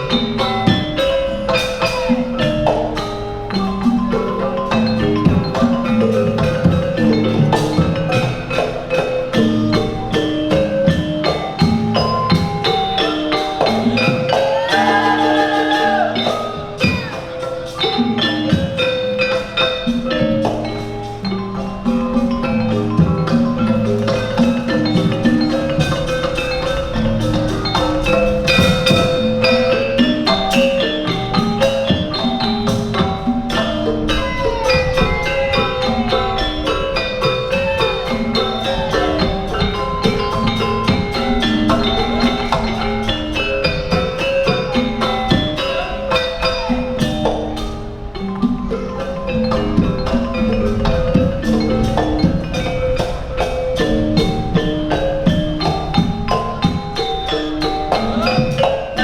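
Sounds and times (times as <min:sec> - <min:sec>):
drum strokes: 0:00.0 - 0:59.0
gamelan ensemble playing: 0:00.0 - 0:59.0.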